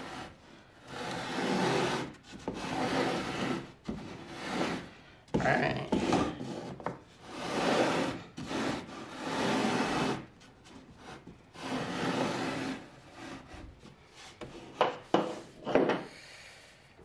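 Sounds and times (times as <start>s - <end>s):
pencil scraping on wood: 0.0s - 4.9s, 5.9s - 15.5s.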